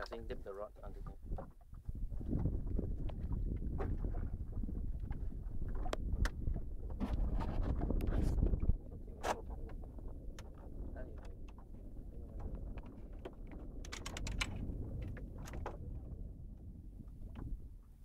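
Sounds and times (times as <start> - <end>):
boat on the sea: 0.0 - 18.0
low rumble of wind: 0.0 - 18.0.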